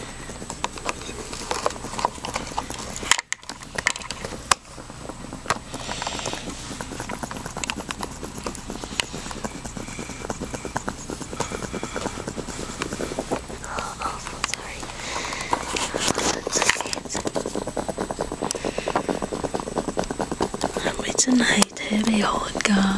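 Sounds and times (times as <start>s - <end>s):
breathy hiss: 0.0s - 22.9s
pet snoring: 0.0s - 22.9s.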